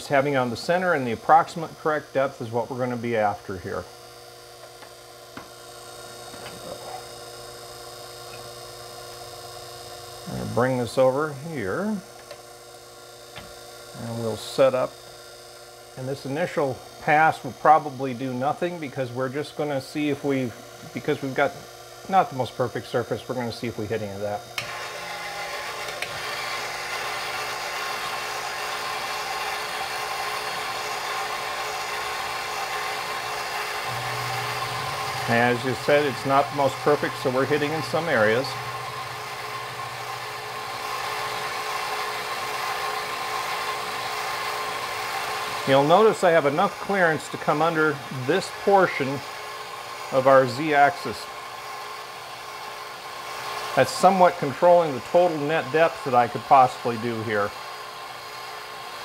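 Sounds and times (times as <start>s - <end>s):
milling machine motor humming: 0.0s - 59.0s.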